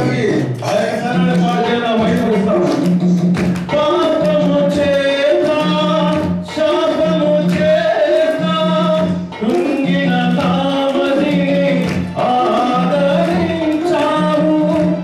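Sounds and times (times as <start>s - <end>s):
repeating bass pattern: 0.0s - 15.0s
worship song through pa: 0.0s - 15.0s.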